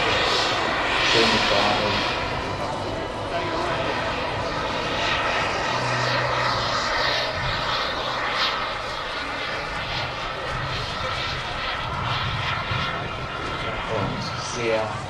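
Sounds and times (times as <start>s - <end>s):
jet turbines rushing: 0.0s - 15.0s.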